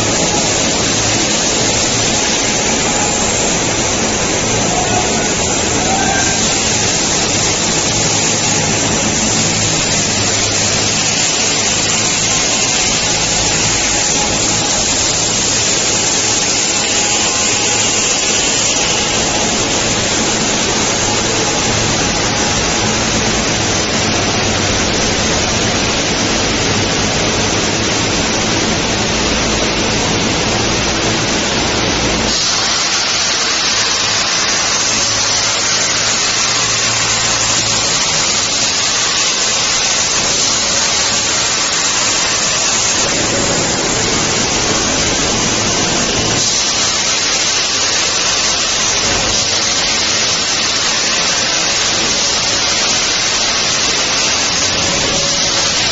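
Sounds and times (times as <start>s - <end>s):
industrial machinery roar: 0.0s - 55.9s.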